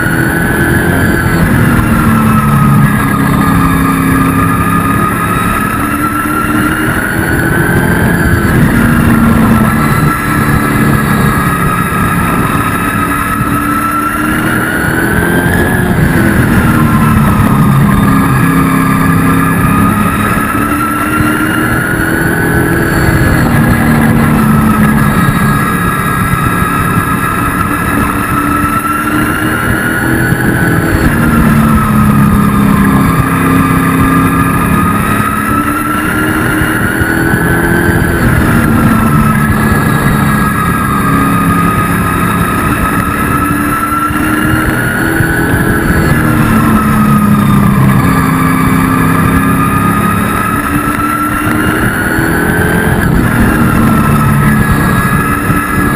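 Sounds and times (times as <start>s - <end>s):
race truck engine revving: 0.0s - 55.9s.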